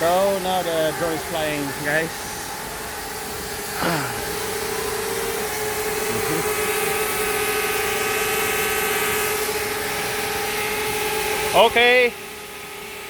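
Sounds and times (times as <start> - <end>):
constant rushing noise: 0.0 - 13.0
drone propellers whining hum: 0.0 - 13.0.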